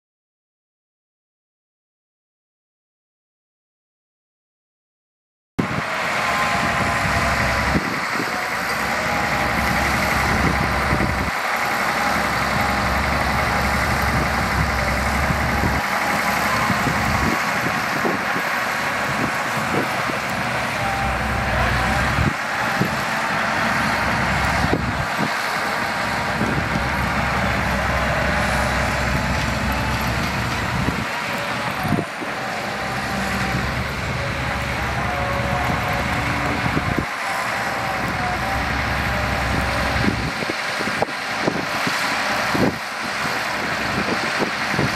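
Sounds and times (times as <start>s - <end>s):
diesel truck engine rumbling: 5.6s - 44.9s.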